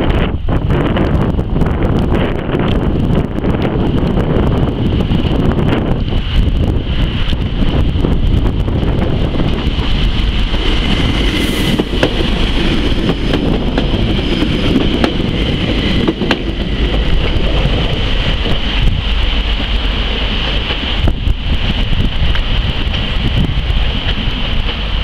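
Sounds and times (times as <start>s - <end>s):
diesel train passing: 0.0s - 25.0s
wind on microphone: 0.0s - 25.0s.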